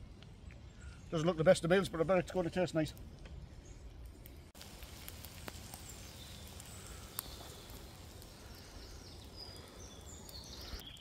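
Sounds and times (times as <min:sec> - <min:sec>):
distant birds chirping: 0:00.2 - 0:11.0.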